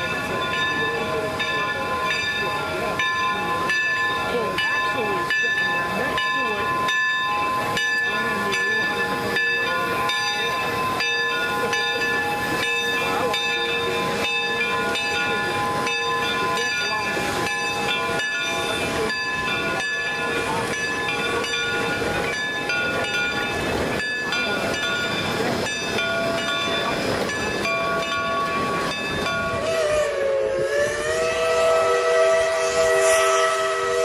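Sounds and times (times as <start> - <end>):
steam hissing: 0.0 - 34.0
steam locomotive beat: 0.0 - 34.0.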